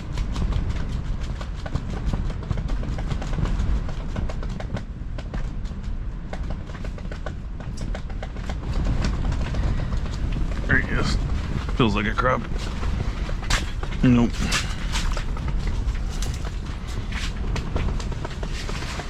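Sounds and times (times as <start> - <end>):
shelter fabric flapping and rattling: 0.0 - 19.0
strong wind rumbling: 0.0 - 19.0.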